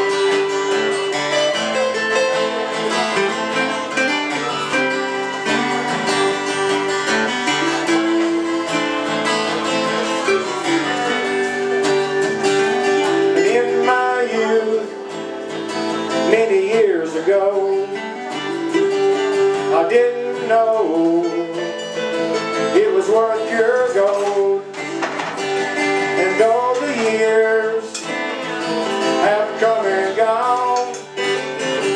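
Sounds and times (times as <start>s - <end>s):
acoustic guitars playing: 0.0s - 31.9s.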